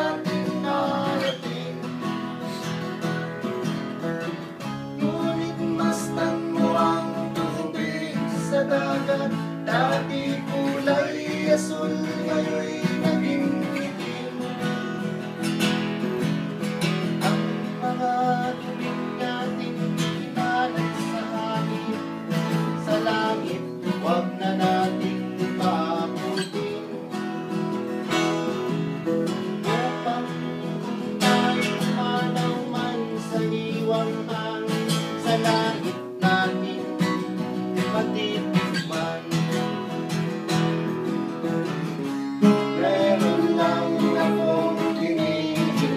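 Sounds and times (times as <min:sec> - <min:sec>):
acoustic guitar strumming folk song: 0:00.0 - 0:45.9.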